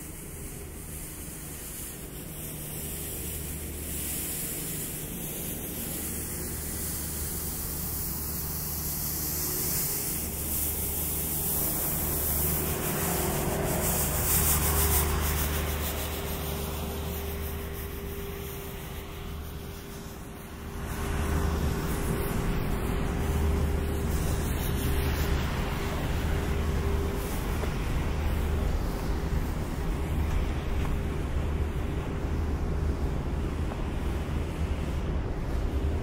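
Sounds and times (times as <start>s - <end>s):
low hum: 0.0s - 36.0s
steady hiss: 0.0s - 36.0s.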